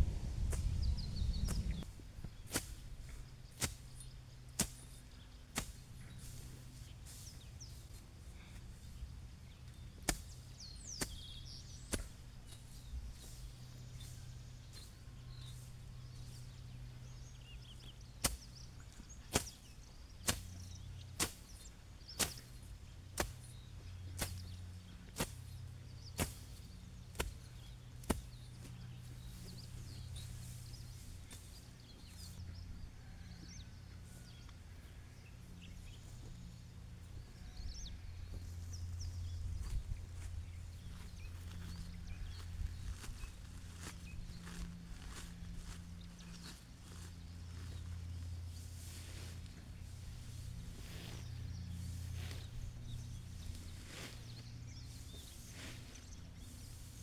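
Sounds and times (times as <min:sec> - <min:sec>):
blade chopping grass: 0:00.0 - 0:32.4, 0:39.2 - 0:57.0.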